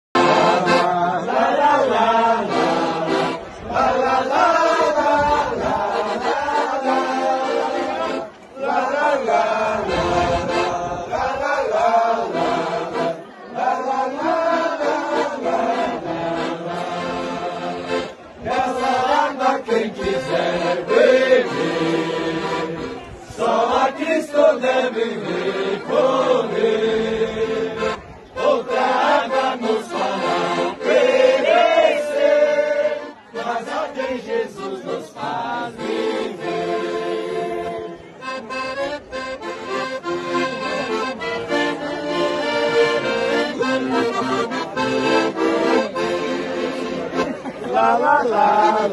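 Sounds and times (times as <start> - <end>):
piano accordion playing hymn: 0.2 - 23.2, 23.8 - 48.9
group of voices singing: 0.2 - 48.9.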